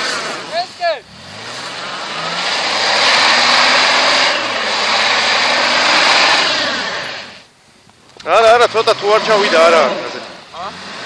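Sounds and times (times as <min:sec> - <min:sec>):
engine revving hard: 0:00.0 - 0:07.4, 0:08.5 - 0:11.0
tyres churning snow: 0:00.0 - 0:07.5, 0:08.2 - 0:11.0.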